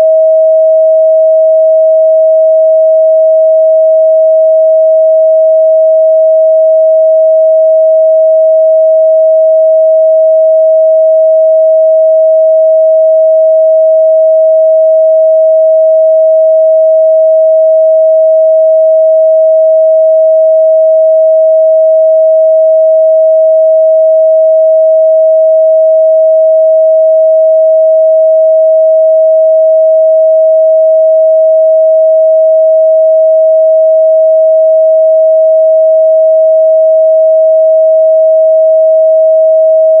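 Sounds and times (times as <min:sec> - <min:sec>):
sine-wave test tone: 0:00.0 - 0:40.0.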